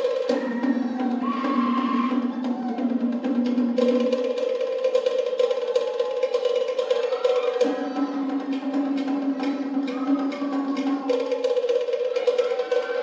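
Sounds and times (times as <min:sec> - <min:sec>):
wooden log drums: 0:00.0 - 0:13.0.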